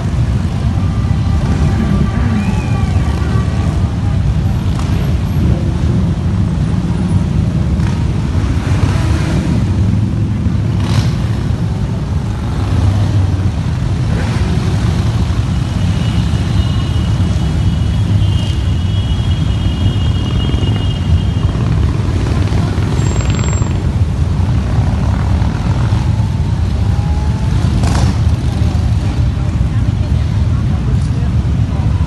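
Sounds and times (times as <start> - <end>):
motorcycles riding past: 0.0 - 18.7, 19.4 - 32.0.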